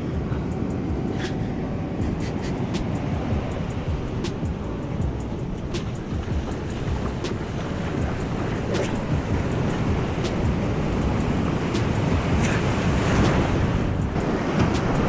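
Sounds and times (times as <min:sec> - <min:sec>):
surf washing on a beach: 0:00.0 - 0:15.0
wind rumbling on microphone: 0:00.0 - 0:15.0.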